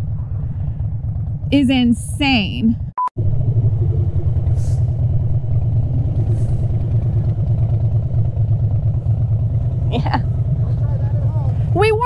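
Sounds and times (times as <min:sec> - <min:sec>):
motorcycle engine throbbing: 0:00.0 - 0:12.0.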